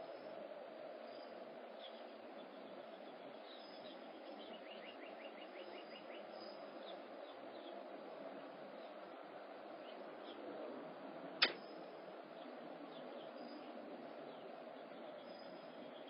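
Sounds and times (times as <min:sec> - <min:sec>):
faint bird chirps: 0:00.0 - 0:09.0, 0:11.4 - 0:16.0
outdoor background hiss: 0:00.0 - 0:16.0.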